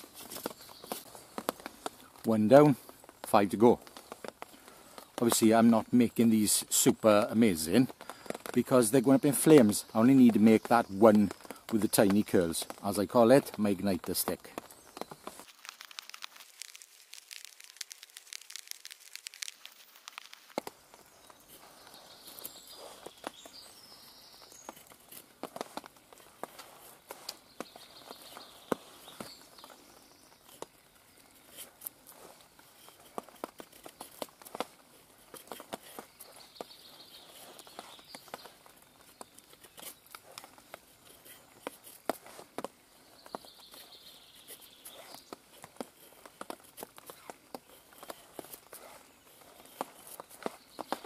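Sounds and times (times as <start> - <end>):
knife shaving wood: 0.0 - 51.0.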